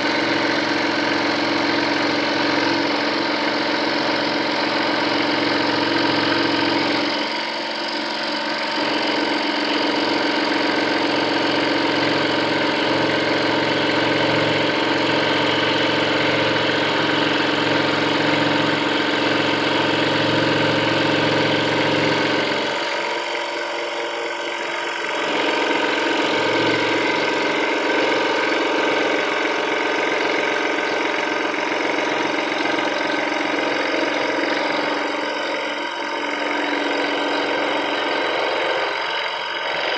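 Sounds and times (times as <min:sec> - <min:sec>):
scroll saw buzzing: 0:00.0 - 0:39.9.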